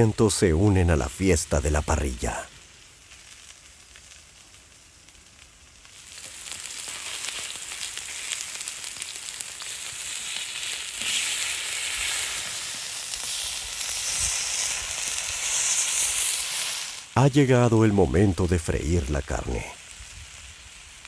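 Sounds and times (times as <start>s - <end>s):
vegetables sizzling in fat: 0.0s - 21.0s.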